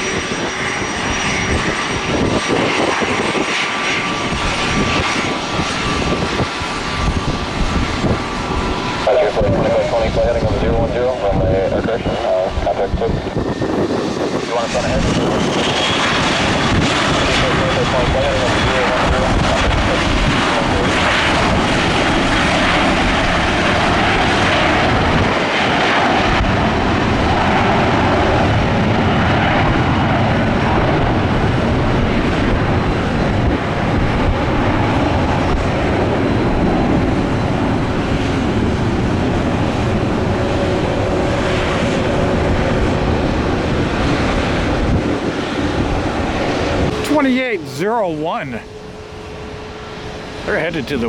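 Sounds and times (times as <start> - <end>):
faint engine whine: 0.0 - 25.1, 25.8 - 51.0
jet engines rumbling: 0.0 - 51.0.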